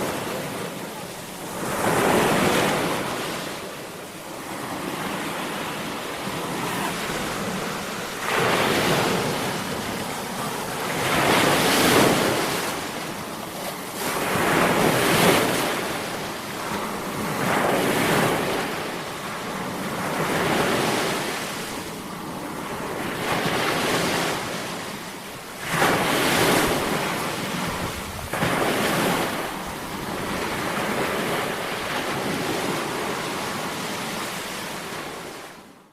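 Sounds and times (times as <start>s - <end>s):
waves crashing on shore: 0.0s - 35.9s.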